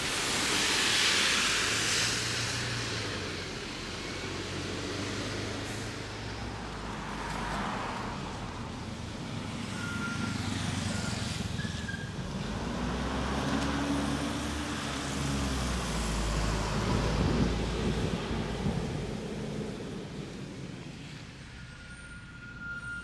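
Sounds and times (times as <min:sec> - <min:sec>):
bus driving past: 0:00.0 - 0:23.0
low rumble of traffic: 0:00.0 - 0:23.0.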